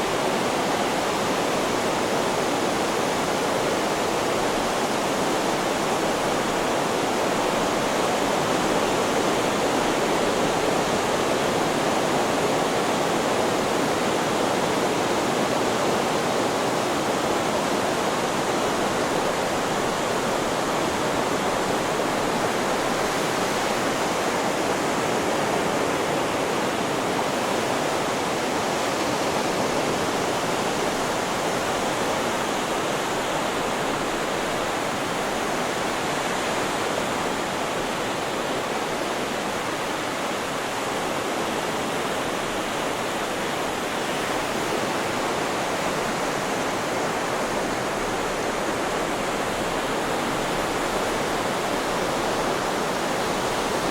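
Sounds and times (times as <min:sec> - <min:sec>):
steady white noise hiss: 0:00.0 - 0:53.9.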